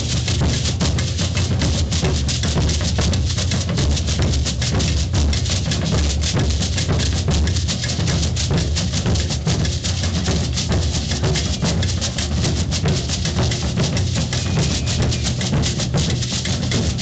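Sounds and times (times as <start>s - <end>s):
deep bass drums: 0.0s - 17.0s
percussion ensemble playing: 0.0s - 17.0s
rattling snare drums: 0.0s - 17.0s
shakers: 0.0s - 17.0s.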